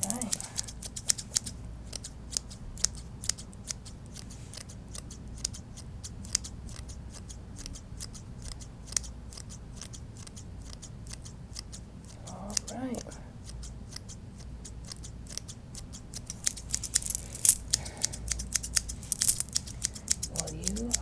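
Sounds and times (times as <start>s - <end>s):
scissors snipping hair: 0.0s - 21.0s.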